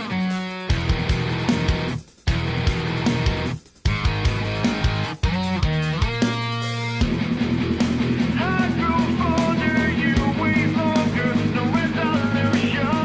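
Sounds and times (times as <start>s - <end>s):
rock music with driving beat: 0.0s - 13.0s.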